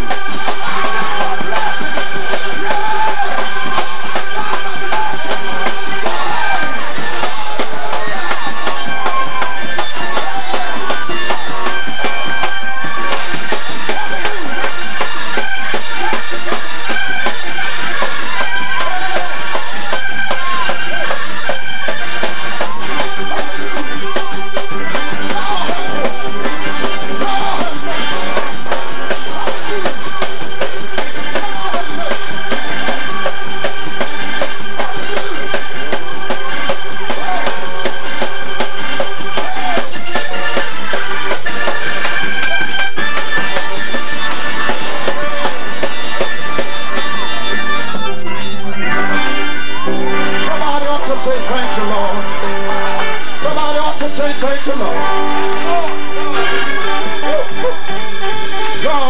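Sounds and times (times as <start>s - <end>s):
drum kit beat: 0.0s - 48.3s
organ chords: 0.0s - 59.0s.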